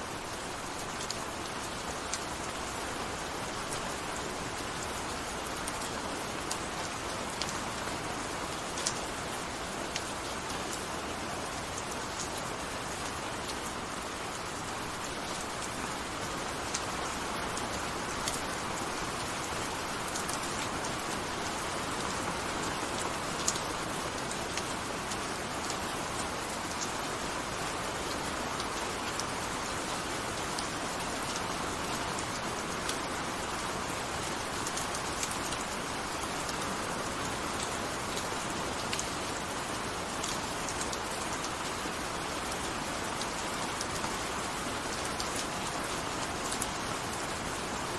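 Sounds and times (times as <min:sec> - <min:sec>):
gentle rain hiss: 0:00.0 - 0:47.9.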